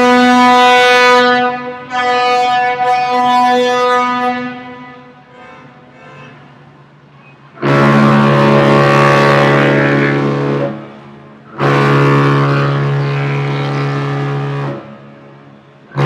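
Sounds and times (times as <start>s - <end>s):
ship's horn blasts: 0.0s - 16.0s.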